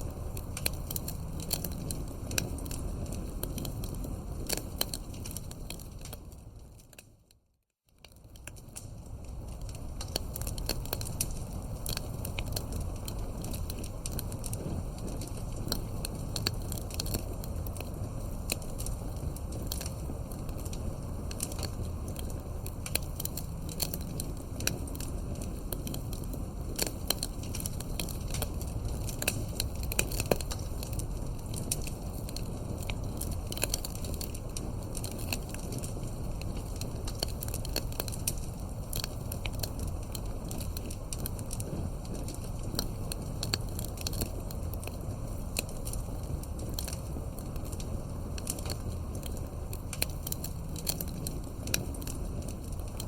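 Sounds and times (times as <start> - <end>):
fire popping and snapping: 0.0 - 53.0
fire rumbling: 0.0 - 53.0.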